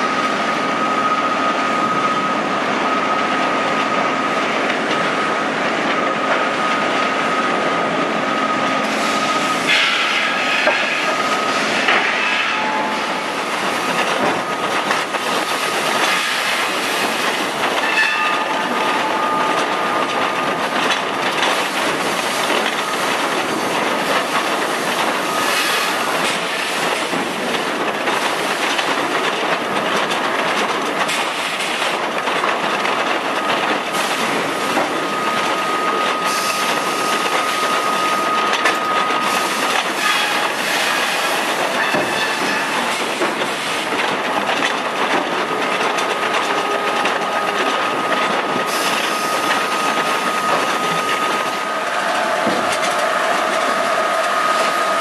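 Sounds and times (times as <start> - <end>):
conveyor machinery clattering: 0.0 - 55.0.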